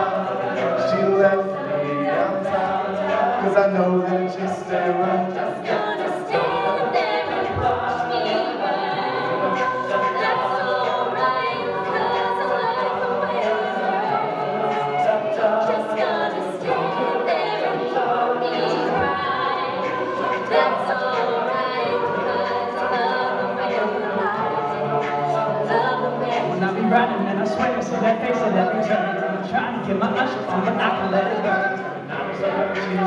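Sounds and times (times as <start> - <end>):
a cappella group singing in harmony: 0.0 - 33.0.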